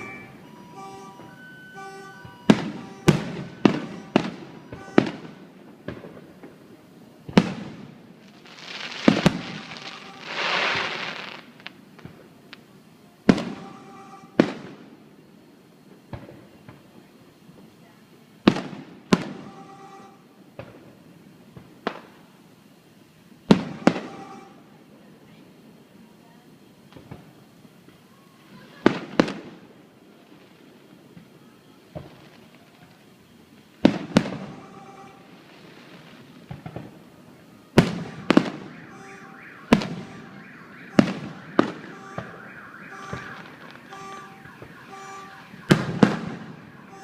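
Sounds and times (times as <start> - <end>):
fireworks bangs with echo: 0.0 - 12.4, 13.2 - 15.0, 16.0 - 16.9, 18.4 - 19.8, 20.5 - 22.3, 23.4 - 24.8, 26.9 - 29.8, 30.4 - 33.0, 33.7 - 47.0
fireworks crackling: 0.0 - 47.0.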